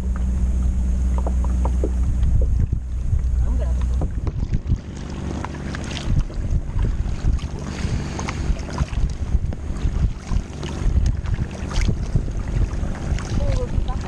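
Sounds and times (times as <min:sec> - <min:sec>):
wind rumble on microphone: 0:00.0 - 0:14.0
kayak paddle splashing in water: 0:01.1 - 0:14.0.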